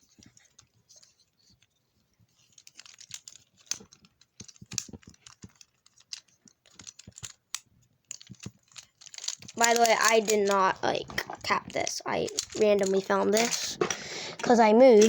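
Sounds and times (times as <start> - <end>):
plastic toys clicking: 2.4 - 15.0.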